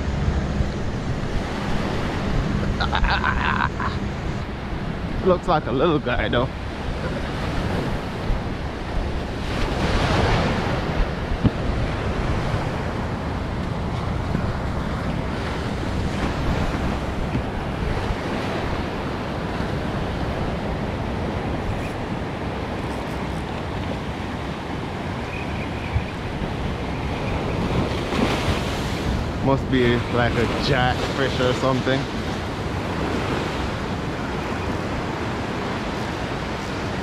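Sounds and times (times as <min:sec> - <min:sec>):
ocean surf breaking on sand: 0:00.0 - 0:37.0
wind buffeting microphone: 0:00.0 - 0:37.0.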